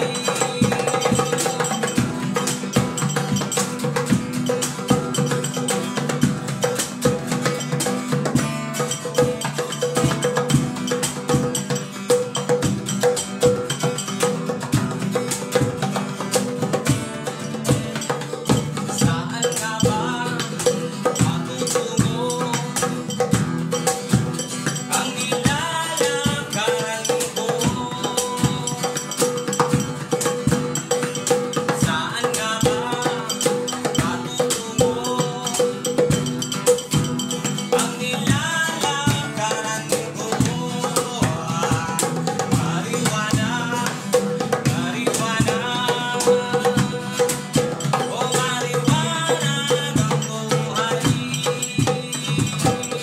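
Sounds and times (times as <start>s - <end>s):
acoustic guitar strumming: 0.0s - 53.0s
hand drum beat: 0.0s - 53.0s.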